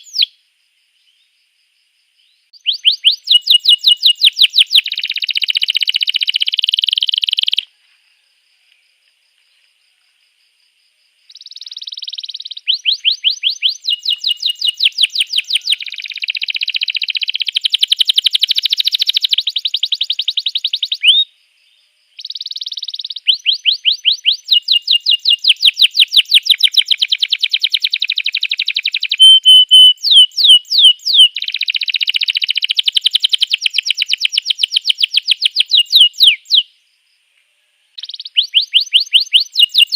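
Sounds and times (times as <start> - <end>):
canary singing trills: 0.0 - 0.4, 2.2 - 7.7, 11.3 - 21.3, 22.2 - 36.9, 38.0 - 39.9.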